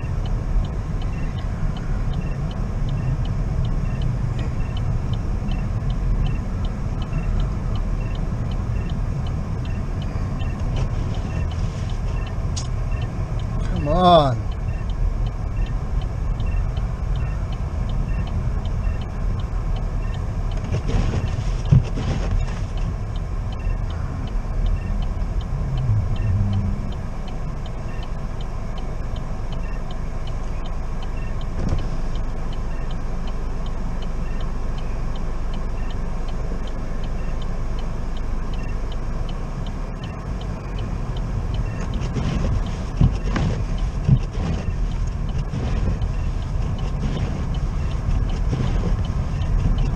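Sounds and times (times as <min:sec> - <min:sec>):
car engine and road rumble: 0:00.0 - 0:49.9
faint regular ticking: 0:00.0 - 0:49.9.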